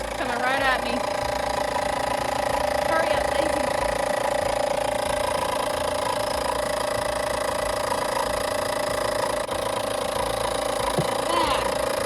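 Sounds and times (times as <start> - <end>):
milking machine droning: 0.0 - 12.0.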